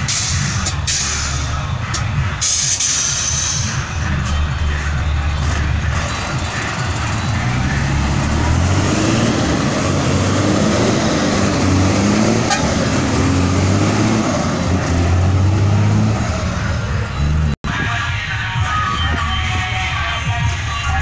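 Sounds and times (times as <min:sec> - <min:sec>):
traffic noise: 0:00.0 - 0:21.0
truck engines running: 0:00.0 - 0:21.0.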